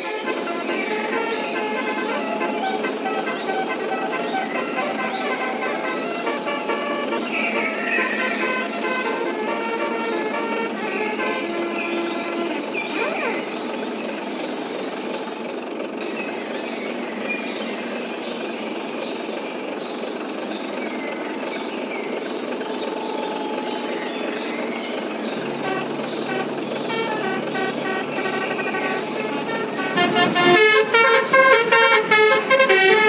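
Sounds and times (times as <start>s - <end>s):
multi-tone bus horn melody: 0.0s - 16.6s, 21.0s - 33.0s
street and traffic noise: 0.0s - 33.0s.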